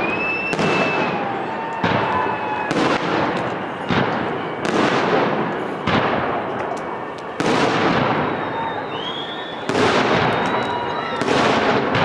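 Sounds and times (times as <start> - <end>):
firework whistle: 0.0 - 12.0
fireworks bursting with echo: 0.0 - 12.0.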